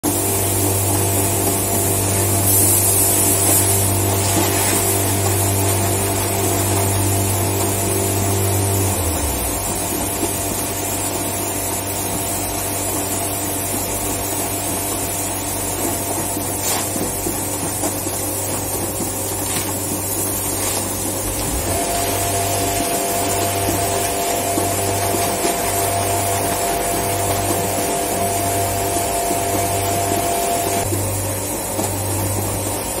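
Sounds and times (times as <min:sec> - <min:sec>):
factory machinery humming: 0:00.1 - 0:33.0
steady machine tones: 0:00.1 - 0:33.0.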